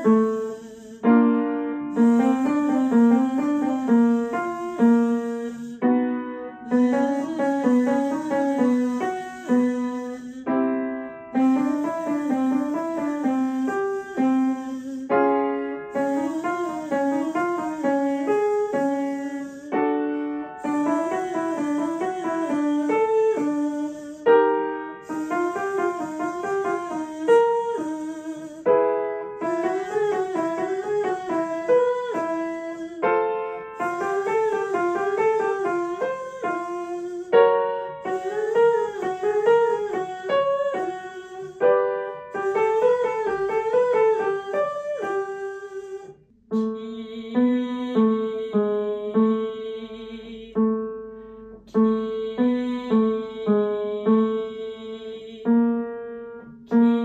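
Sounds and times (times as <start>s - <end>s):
upright piano chords: 0.0s - 57.0s
woman singing vocal scales: 0.0s - 57.0s.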